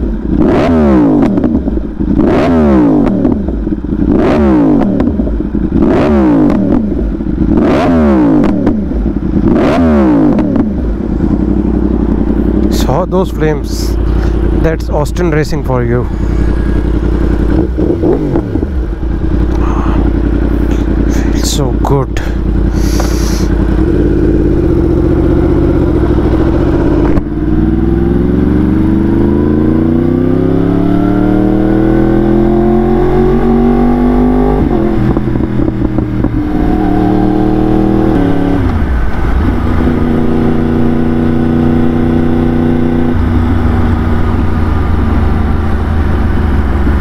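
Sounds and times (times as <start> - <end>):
gear changes: 0.0 - 47.0
motorcycle engine revving: 0.0 - 47.0.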